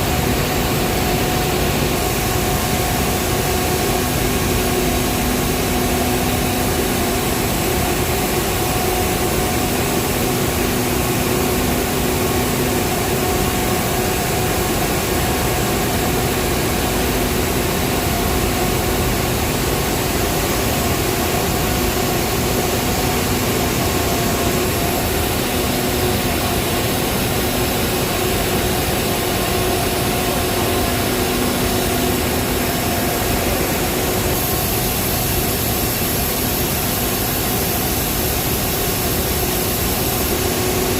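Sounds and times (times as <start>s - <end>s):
steady hum tones: 0.0s - 40.9s.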